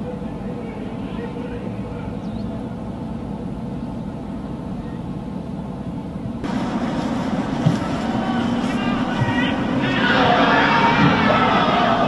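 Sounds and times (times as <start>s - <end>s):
outdoor field ambience: 0.0s - 12.0s.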